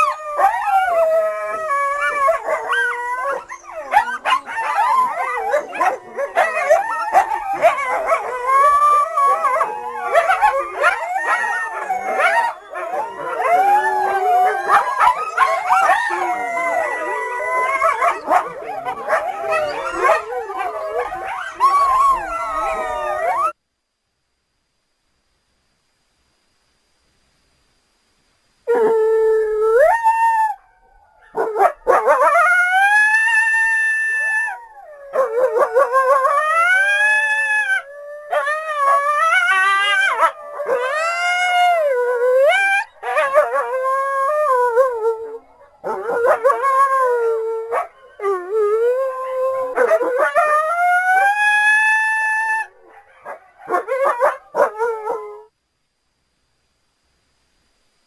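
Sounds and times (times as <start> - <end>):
canine howls and whines: 0.0 - 23.6, 28.7 - 55.5.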